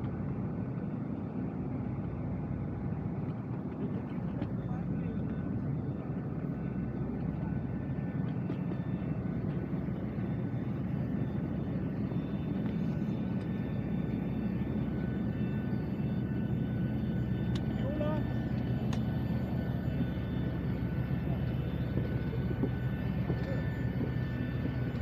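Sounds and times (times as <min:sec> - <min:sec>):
aircraft low rumble: 0:00.0 - 0:25.0
faint thin whining tones: 0:00.3 - 0:25.0.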